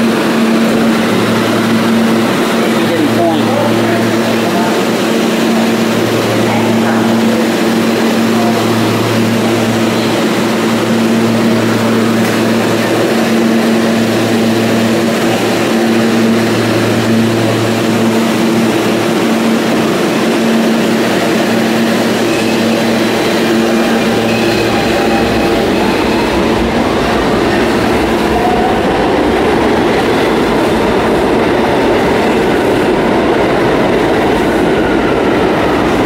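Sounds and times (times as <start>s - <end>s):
subway car electrical hum: 0.0s - 36.0s.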